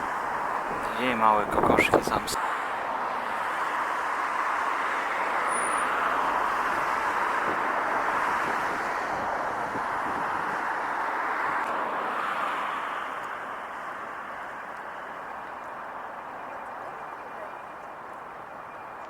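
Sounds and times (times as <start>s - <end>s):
road traffic hiss: 0.0s - 16.2s.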